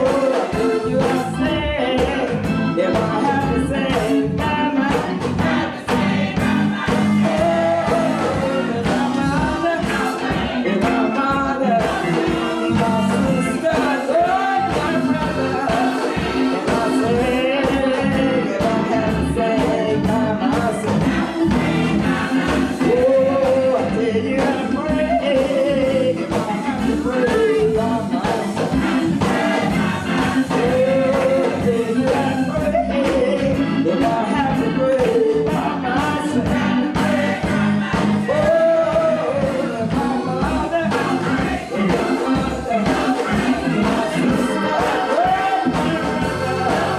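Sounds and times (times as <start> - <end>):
bass and drums: 0.0 - 46.9
gospel choir singing: 0.0 - 46.9.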